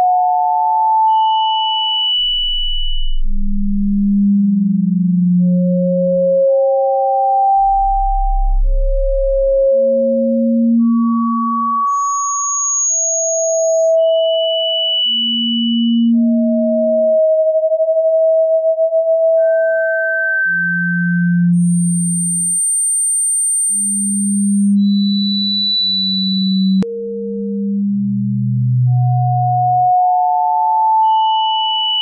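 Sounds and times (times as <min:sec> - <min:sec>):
pure sine tones: 0:00.0 - 0:32.0.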